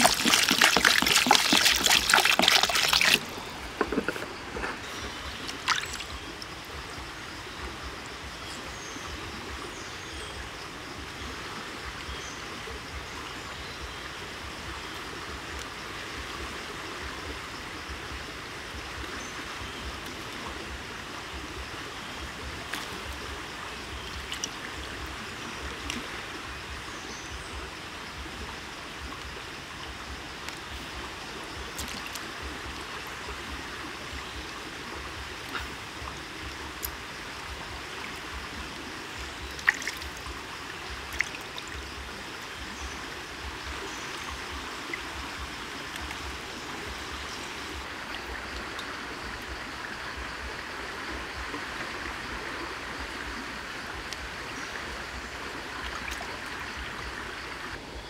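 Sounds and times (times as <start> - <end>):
water drips and splashes: 0.0 - 8.4, 14.5 - 57.8
water trickling and sloshing: 0.0 - 58.0.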